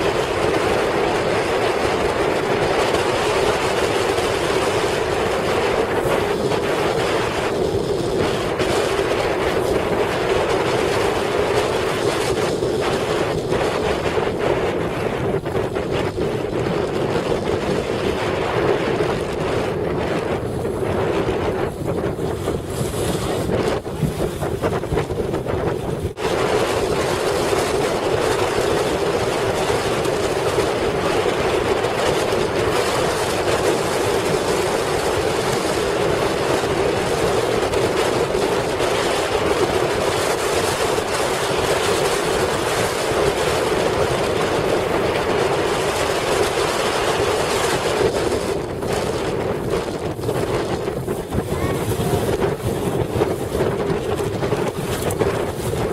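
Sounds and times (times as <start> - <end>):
water rushing: 0.0 - 55.9
wind buffeting microphone: 0.0 - 55.9.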